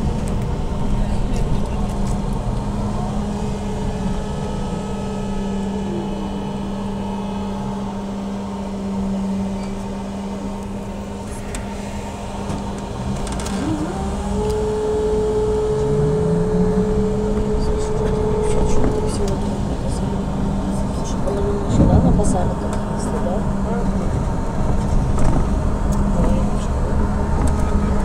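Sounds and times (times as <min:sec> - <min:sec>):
trolleybus electric drive humming: 0:00.0 - 0:28.0.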